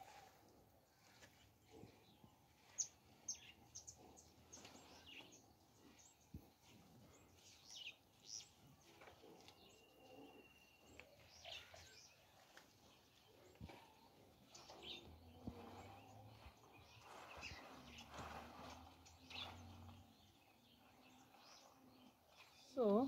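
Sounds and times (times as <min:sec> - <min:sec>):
birds chirping: 0:01.4 - 0:23.0.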